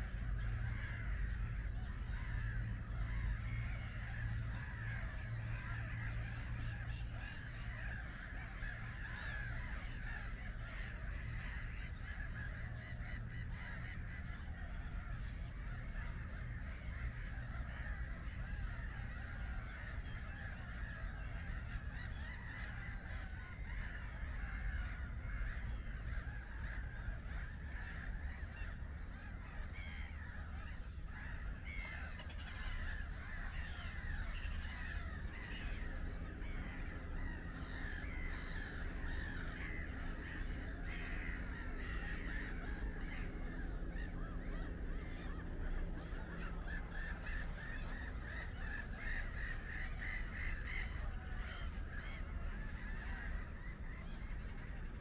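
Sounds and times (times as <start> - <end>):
flock of birds calling: 0.0 - 55.0
steady low rumble: 0.0 - 55.0.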